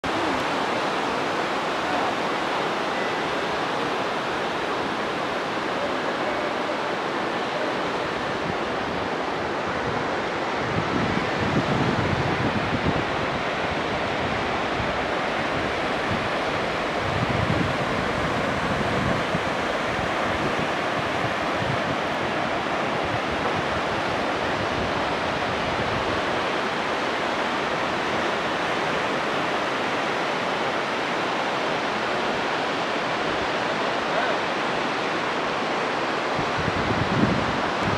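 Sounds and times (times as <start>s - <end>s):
wind buffeting microphone: 0.0s - 31.0s, 34.7s - 37.9s
river rushing over rocks: 0.0s - 37.9s.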